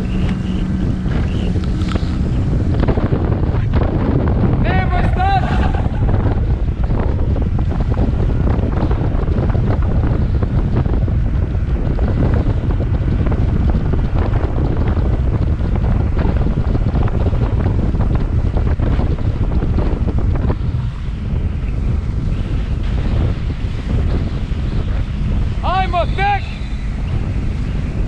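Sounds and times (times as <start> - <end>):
choppy sea water: 0.0 - 28.0
wind buffeting microphone: 0.0 - 28.0.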